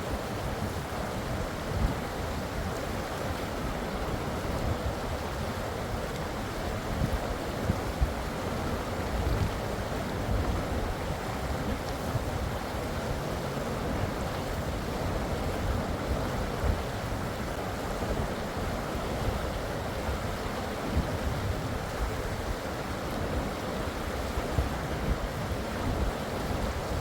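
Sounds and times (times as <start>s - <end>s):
river water flowing: 0.0s - 27.0s
wind rumbling on microphone: 0.0s - 27.0s.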